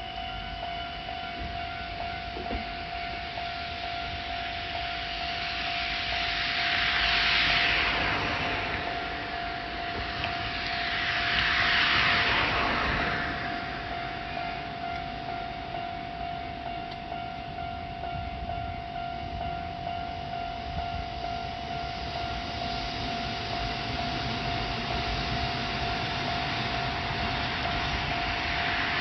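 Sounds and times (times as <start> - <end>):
level-crossing warning bell: 0.0 - 29.0
train rumble: 0.0 - 29.0.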